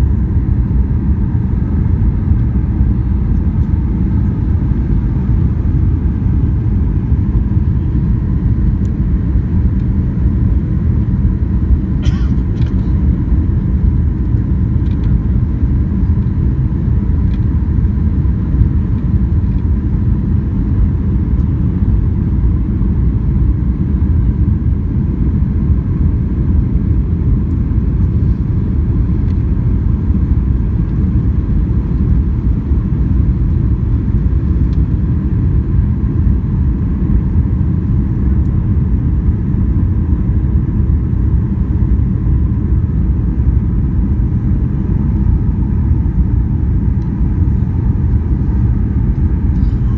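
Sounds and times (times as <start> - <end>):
faint steady hum: 0.0 - 49.9
jet engine and airflow rumble: 0.0 - 49.9.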